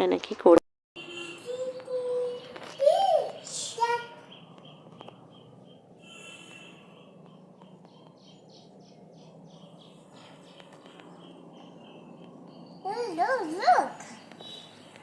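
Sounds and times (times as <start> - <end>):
bird chirping faintly: 1.0 - 15.0
low steady hum: 1.0 - 15.0.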